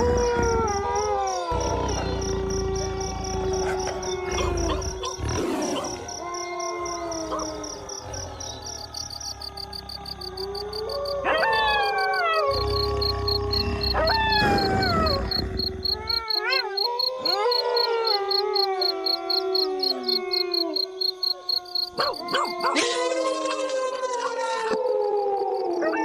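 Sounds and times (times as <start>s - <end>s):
wolves yipping: 0.0s - 8.8s, 10.7s - 23.4s
wolves howling: 0.0s - 26.0s.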